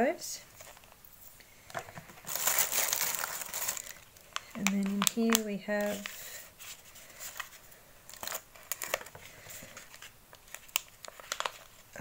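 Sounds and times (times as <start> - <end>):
packaging and paper crinkling: 0.5 - 1.0, 1.7 - 12.0.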